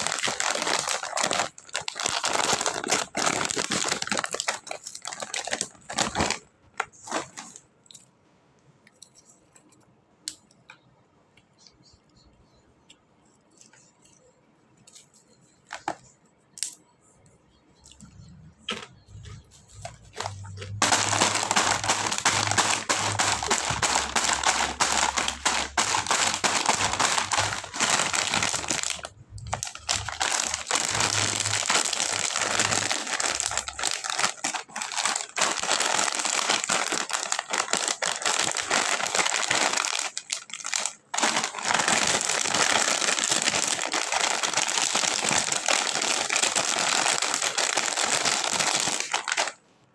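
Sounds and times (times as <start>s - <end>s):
plastic packaging crinkling: 0.0s - 8.0s, 14.9s - 16.0s, 18.6s - 49.6s.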